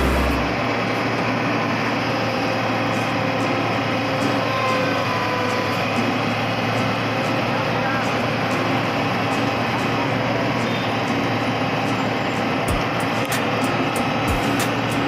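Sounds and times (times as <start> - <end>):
engines running steadily: 0.0 - 15.0.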